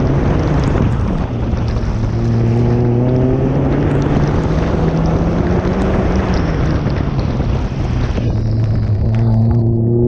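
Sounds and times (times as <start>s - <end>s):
car engine pulling hard: 0.0s - 10.0s
wind noise on microphone: 0.0s - 10.0s.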